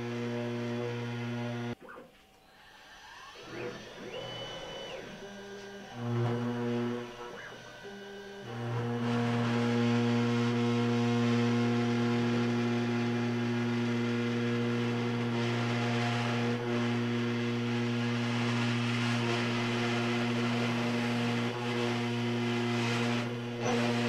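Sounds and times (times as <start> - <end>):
router spindle droning hum: 0.0 - 24.0.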